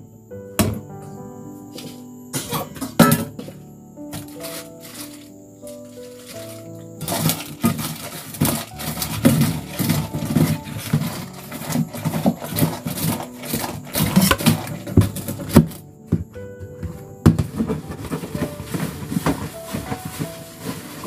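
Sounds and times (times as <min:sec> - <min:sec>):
household objects clattering: 0:00.6 - 0:21.0.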